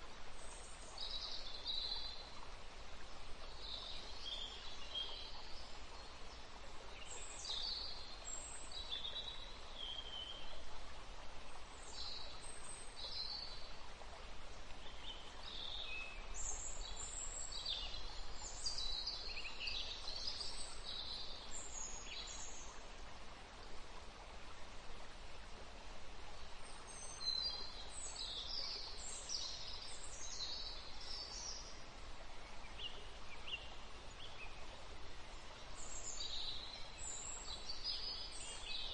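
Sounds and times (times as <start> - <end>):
background hiss: 0.0 - 38.9.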